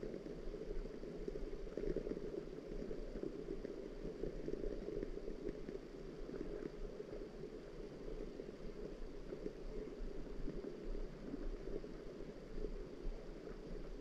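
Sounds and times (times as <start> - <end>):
faint low hum: 0.0 - 14.0
muffled rain: 0.0 - 14.0.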